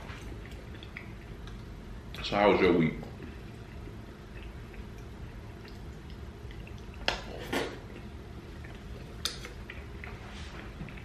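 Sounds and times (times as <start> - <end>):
quiet chewing: 0.0 - 2.3, 3.0 - 11.0.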